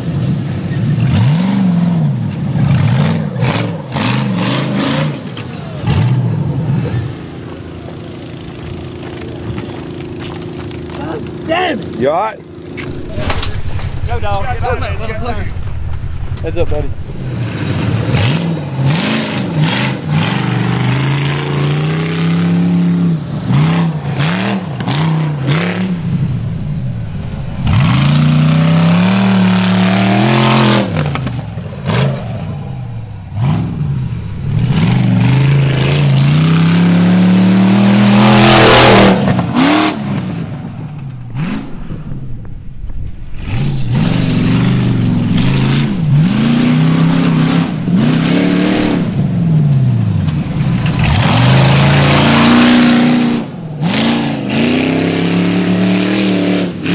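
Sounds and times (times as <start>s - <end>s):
engine revving hard: 1.0s - 7.1s, 12.7s - 40.6s, 41.3s - 42.2s, 43.3s - 50.0s, 50.8s - 56.9s.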